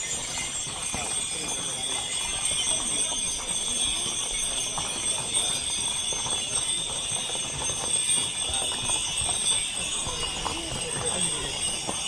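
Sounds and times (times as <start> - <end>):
horse hooves clip-clopping on asphalt: 0.0 - 12.0.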